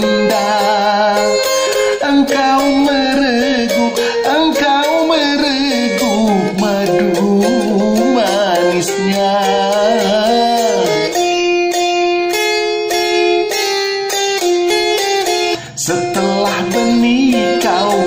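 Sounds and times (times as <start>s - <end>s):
man singing: 0.0s - 11.8s, 15.2s - 18.0s
plucked lute: 0.0s - 18.0s.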